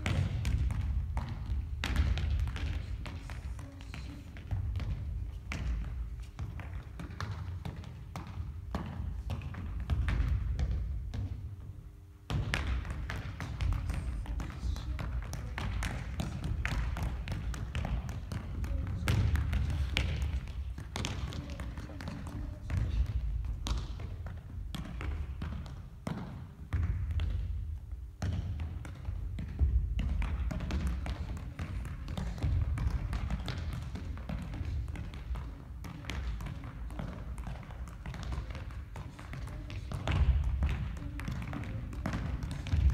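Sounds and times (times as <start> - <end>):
shoe tapping soccer ball: 0.0 - 11.6, 12.3 - 42.9.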